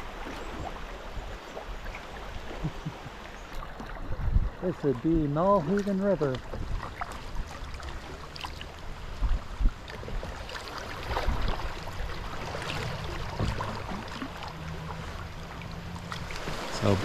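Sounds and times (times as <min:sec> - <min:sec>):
paddle splashing water: 0:00.0 - 0:17.0.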